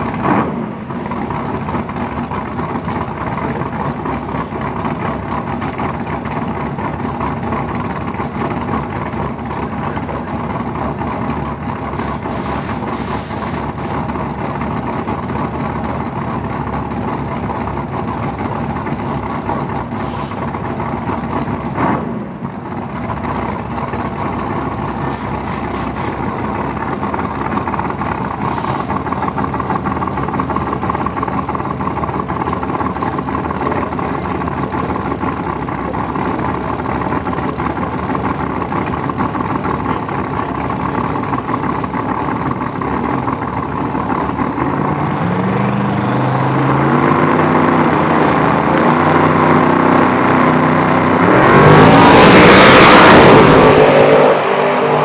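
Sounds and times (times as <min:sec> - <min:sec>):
race car engines rumbling: 0:00.0 - 0:55.0.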